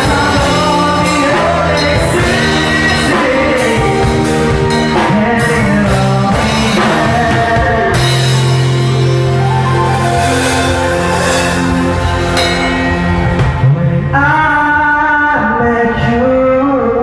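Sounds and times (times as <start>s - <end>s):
rock band playing: 0.0s - 15.0s
person singing: 0.0s - 17.0s.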